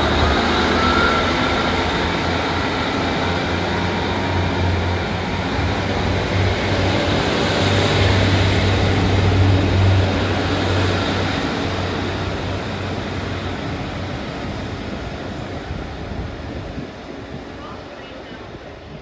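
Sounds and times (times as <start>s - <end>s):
diesel train engine drone: 0.0s - 19.0s
train wheel rumble: 0.0s - 19.0s.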